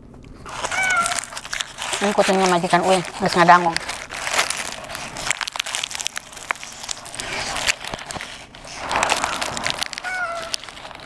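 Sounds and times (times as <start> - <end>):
crunchy chewing of fried chicken: 0.0 - 11.0
paper wrapper rustling: 0.1 - 11.0.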